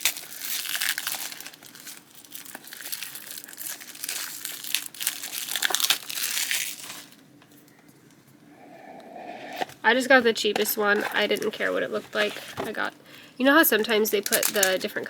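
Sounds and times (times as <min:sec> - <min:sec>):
packaging crinkling and rustling: 0:00.0 - 0:08.2, 0:09.6 - 0:15.0.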